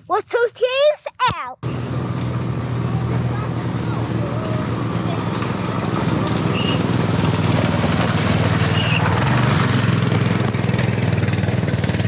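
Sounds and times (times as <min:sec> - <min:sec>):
small engine running: 0:01.6 - 0:12.0.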